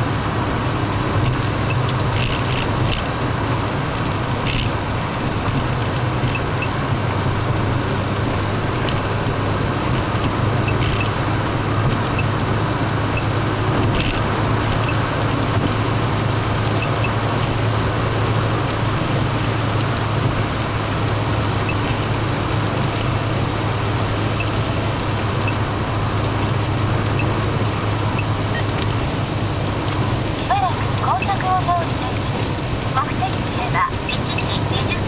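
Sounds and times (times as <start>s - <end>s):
in-car road noise: 0.0s - 35.0s.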